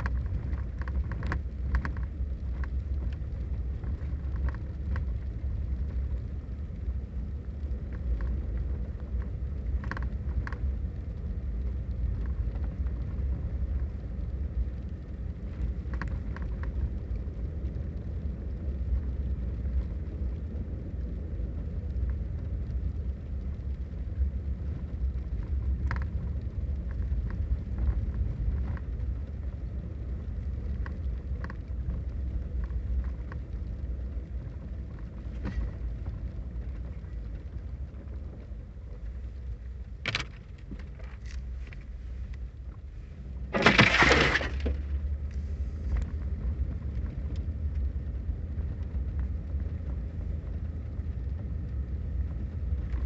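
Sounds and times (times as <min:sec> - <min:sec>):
low storm rumble: 0:00.0 - 0:53.0
rain and ice pellets ticking: 0:00.0 - 0:53.0.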